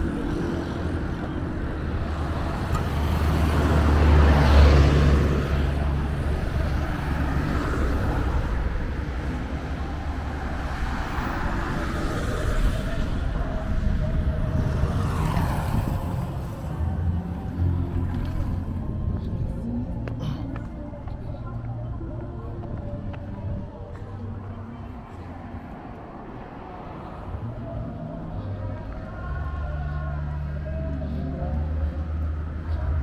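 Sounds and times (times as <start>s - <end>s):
low traffic rumble: 0.0s - 33.0s
vehicles passing: 0.0s - 33.0s.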